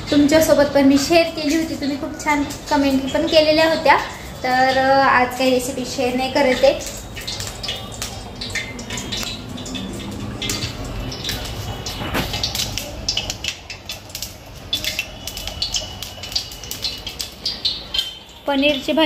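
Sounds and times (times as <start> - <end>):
utensils and pans clinking: 0.0 - 19.0.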